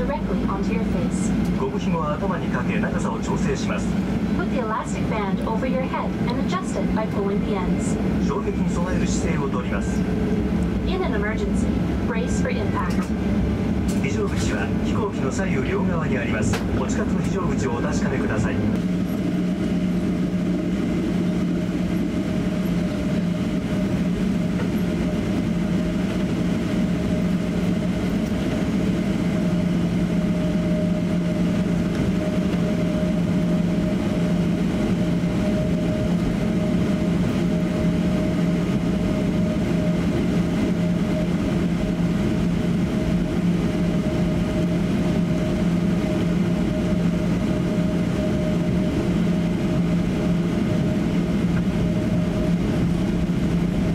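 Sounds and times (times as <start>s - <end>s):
airplane cabin engine hum: 0.0s - 53.9s.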